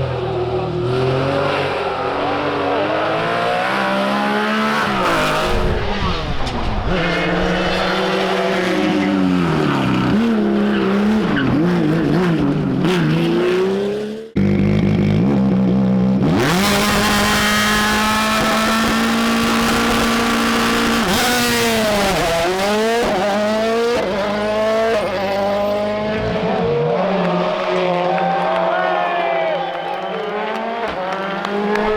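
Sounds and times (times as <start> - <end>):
rally car engines revving: 0.0 - 28.3, 30.0 - 31.9.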